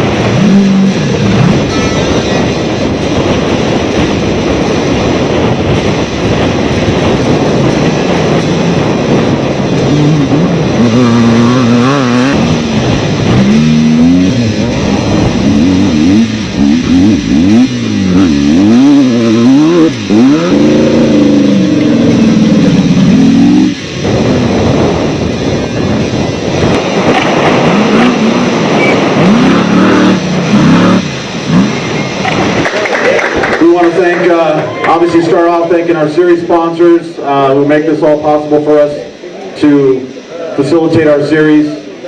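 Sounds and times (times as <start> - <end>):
off-road vehicle engine revving: 0.0 - 34.0
loud rushing noise: 0.0 - 42.0.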